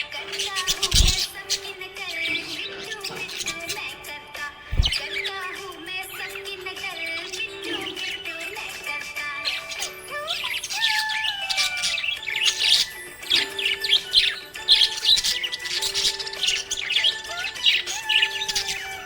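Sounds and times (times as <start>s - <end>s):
background music: 0.0s - 19.0s
parrots chirping: 0.0s - 19.0s.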